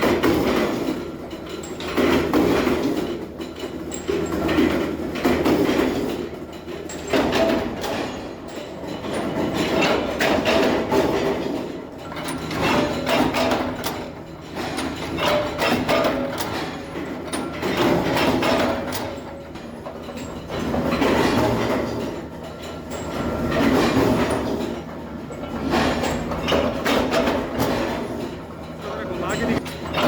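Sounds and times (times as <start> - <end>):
clanking steel parts and tools: 0.0 - 30.0
shop machinery running: 0.0 - 30.0.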